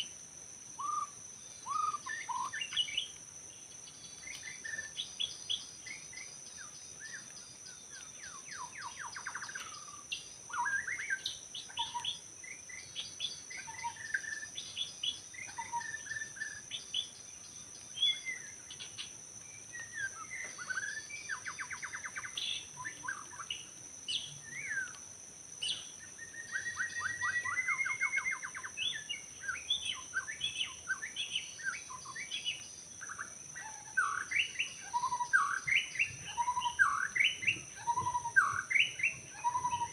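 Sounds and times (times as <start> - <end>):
bird singing whistles and trills: 0.8 - 39.9.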